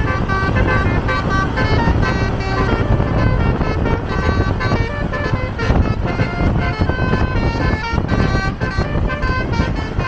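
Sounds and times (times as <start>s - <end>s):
bus and road rumble: 0.0s - 10.0s
bus horn playing melody: 0.0s - 10.0s.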